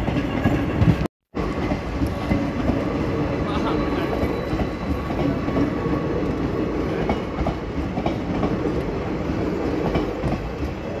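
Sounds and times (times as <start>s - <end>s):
train wheels rumbling on rails: 0.0s - 11.0s
wheels clacking over rail joints: 0.0s - 11.0s.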